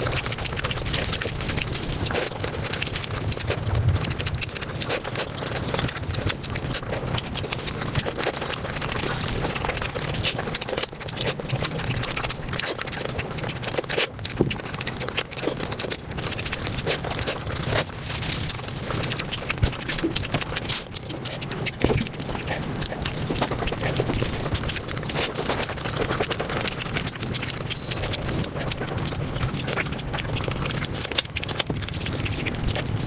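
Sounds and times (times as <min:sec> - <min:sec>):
sped-up chewing noises: 0:00.0 - 0:33.0.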